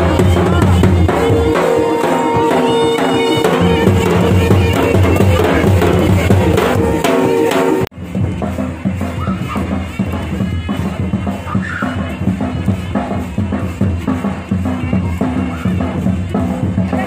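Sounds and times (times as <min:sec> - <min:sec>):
folk music with drums: 0:00.0 - 0:17.0.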